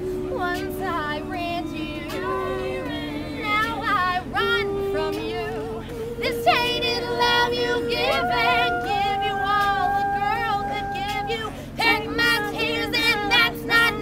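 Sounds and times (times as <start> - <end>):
women singing in harmony: 0.0 - 14.0.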